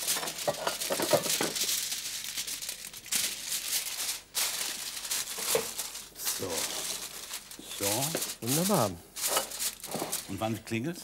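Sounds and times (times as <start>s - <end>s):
aluminium foil crinkling: 0.0s - 10.7s.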